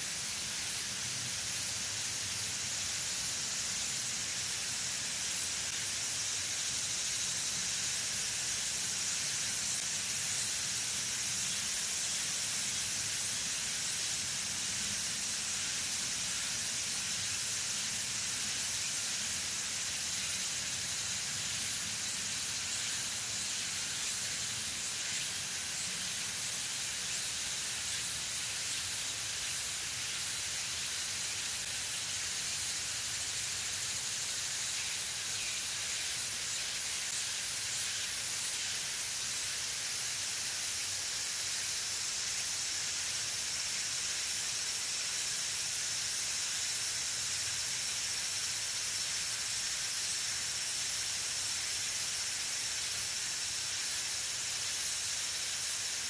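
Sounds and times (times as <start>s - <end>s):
high-pitched forest hiss: 0.0s - 56.0s.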